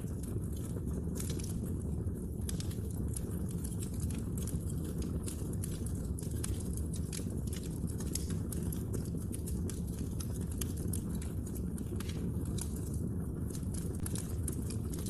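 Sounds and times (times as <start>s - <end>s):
burning logs crackling and popping: 0.0s - 15.0s
wood fire burning: 0.0s - 15.0s.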